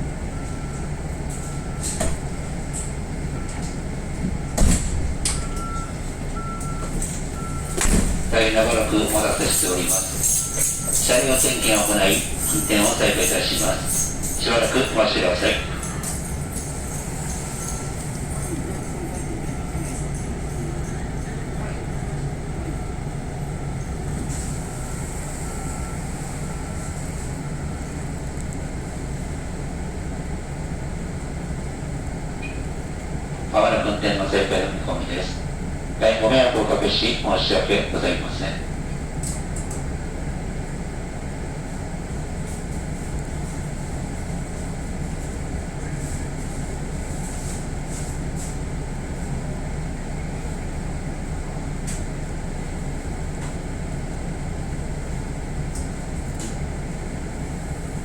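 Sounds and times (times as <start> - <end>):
train equipment low drone: 0.0 - 58.0.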